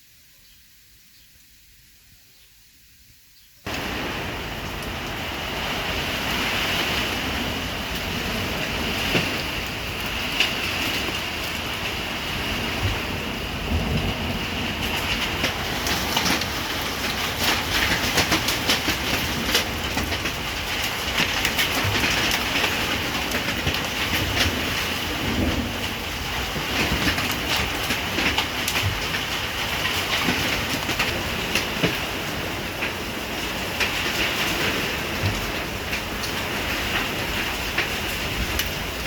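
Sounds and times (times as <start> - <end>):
raindrops hitting surfaces: 0.8 - 39.0
heavy rain hiss: 3.7 - 39.0.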